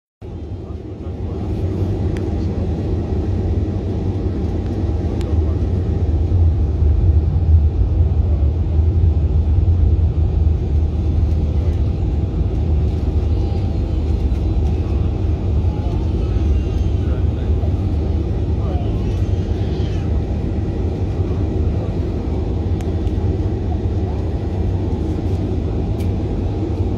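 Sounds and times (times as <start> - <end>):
jet engines and wheels rumbling: 0.2 - 26.9.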